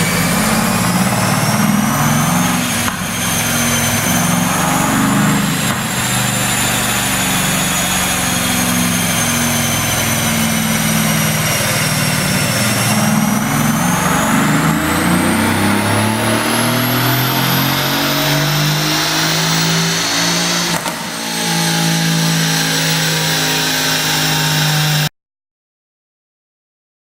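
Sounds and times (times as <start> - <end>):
car engine revving under load: 0.0 - 25.1.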